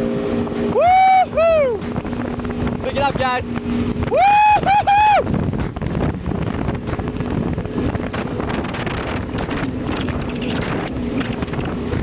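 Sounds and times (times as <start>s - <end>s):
jet ski engine running: 0.0s - 12.0s
wind buffeting microphone: 0.0s - 12.0s.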